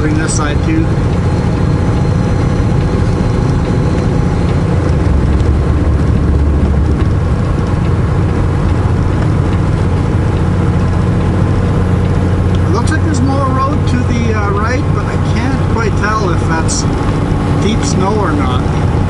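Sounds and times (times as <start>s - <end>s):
diesel truck engine drone: 0.0s - 19.0s
road noise: 0.0s - 19.0s.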